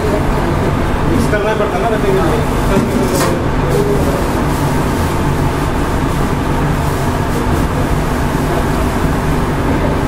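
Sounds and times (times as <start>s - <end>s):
stove rumbling with faint hum: 0.0s - 10.0s.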